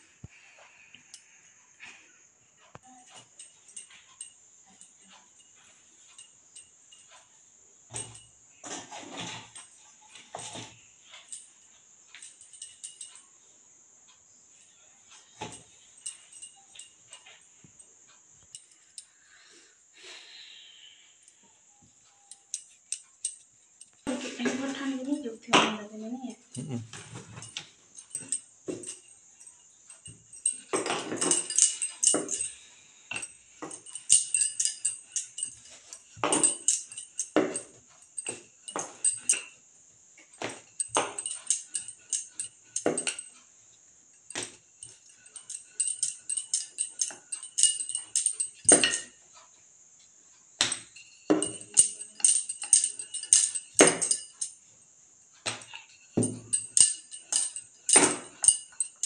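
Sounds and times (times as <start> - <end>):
bangles jingling: 2.7 - 13.4, 14.3 - 19.6, 21.2 - 43.4, 44.0 - 49.5, 50.6 - 54.7, 55.4 - 59.0.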